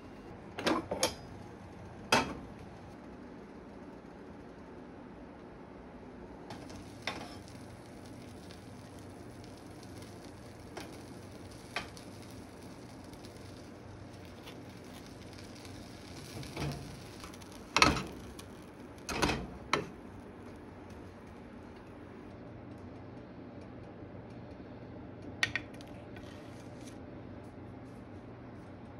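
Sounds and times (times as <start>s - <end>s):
faint steady hum: 0.0s - 28.9s.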